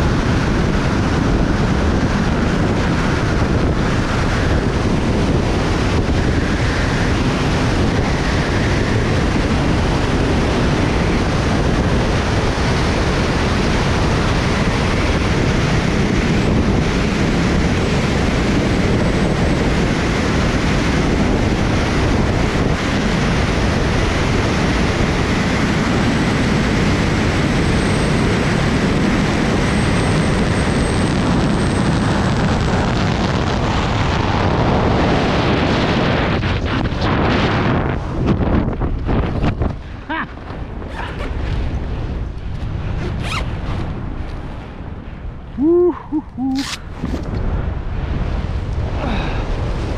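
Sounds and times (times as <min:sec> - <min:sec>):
rush of air over microphone: 0:00.0 - 0:49.9.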